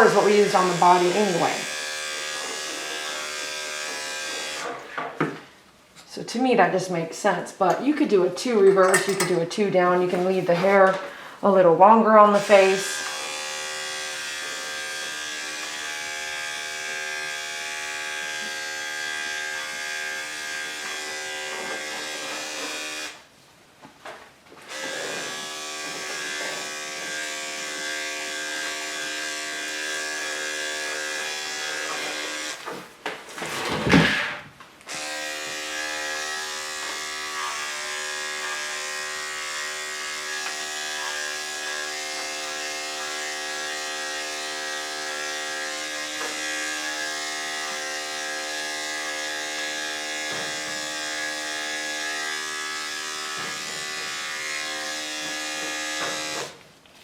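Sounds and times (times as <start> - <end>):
electric clippers buzzing: 0.0 - 5.1, 12.2 - 23.3, 24.6 - 32.8, 34.8 - 56.6.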